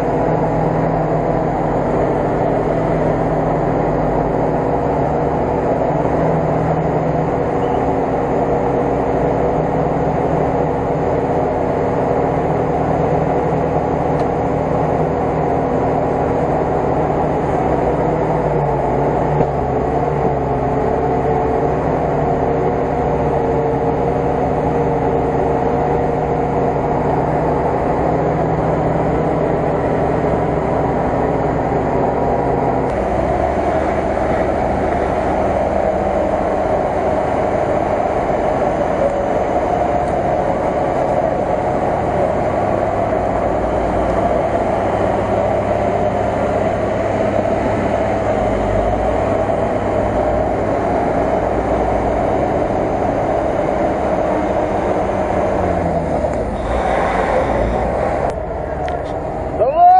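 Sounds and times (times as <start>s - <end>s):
motor drone: 0.0s - 59.6s.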